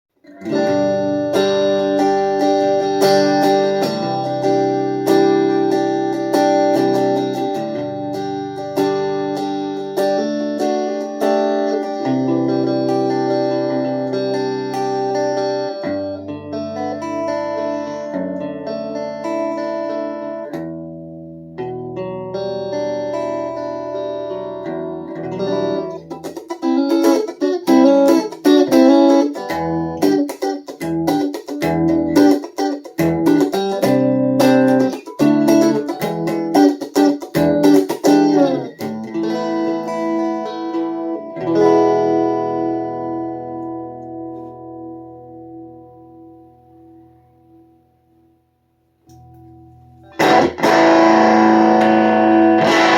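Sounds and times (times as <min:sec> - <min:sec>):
guitar chords ringing: 0:00.2 - 0:48.4, 0:49.0 - 0:52.9.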